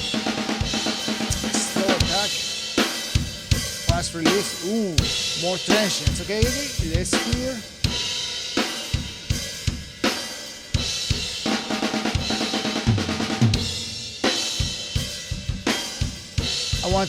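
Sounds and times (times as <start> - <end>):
snare drum: 0.0 - 8.0, 8.6 - 14.8, 15.6 - 17.0
cymbals: 0.0 - 17.0.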